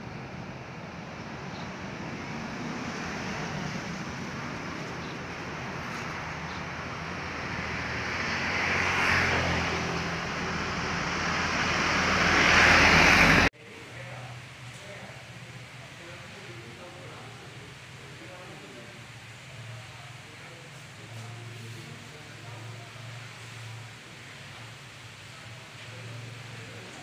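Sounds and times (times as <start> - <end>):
vehicles passing close by: 0.0 - 27.0.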